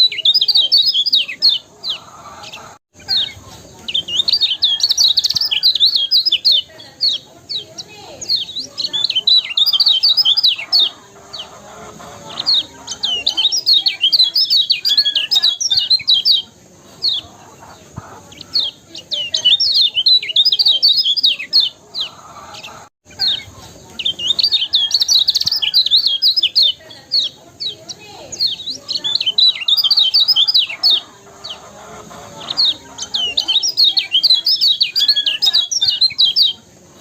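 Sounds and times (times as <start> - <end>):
bird twittering chirps: 0.0 - 37.0.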